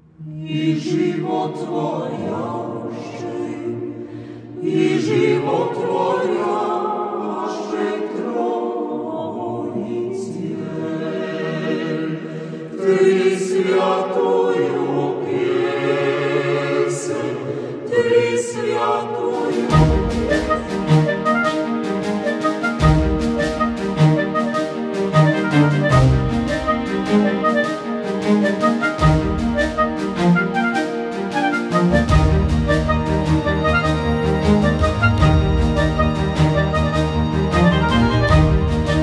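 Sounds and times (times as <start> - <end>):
choir singing held notes: 0.5 - 39.0.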